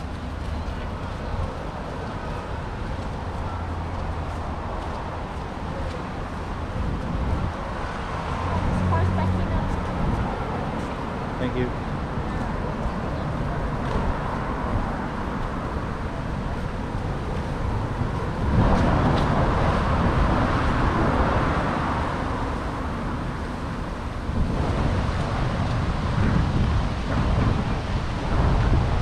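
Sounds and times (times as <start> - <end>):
street traffic: 0.0 - 29.0
wind buffeting microphone: 0.0 - 29.0.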